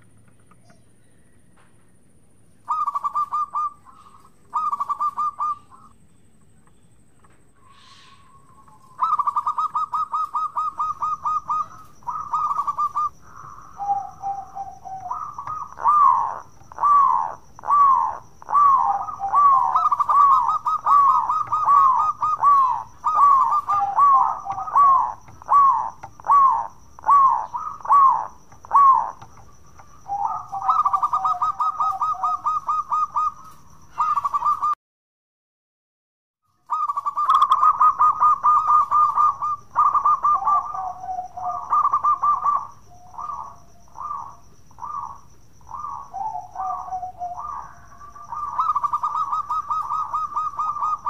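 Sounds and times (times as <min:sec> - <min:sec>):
dove cooing: 0:02.6 - 0:06.0, 0:07.6 - 0:34.8, 0:36.6 - 0:51.0
dove trilling: 0:02.6 - 0:34.8, 0:36.5 - 0:51.0.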